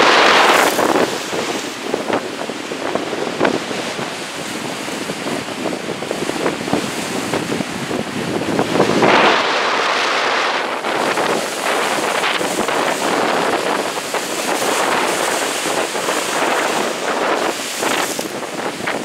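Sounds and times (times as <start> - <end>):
waves breaking on rocks: 0.0 - 19.0
wind buffeting microphone: 0.0 - 19.0.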